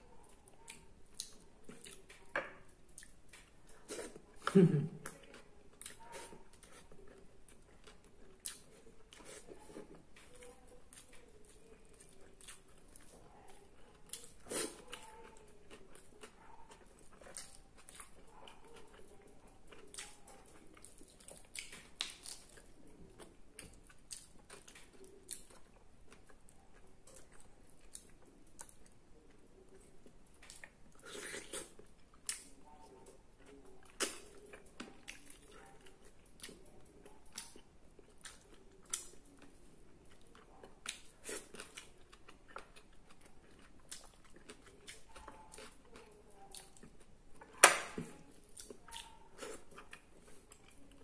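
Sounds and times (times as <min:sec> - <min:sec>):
chewing and mouth smacks: 0:00.2 - 0:47.6, 0:48.4 - 0:51.0.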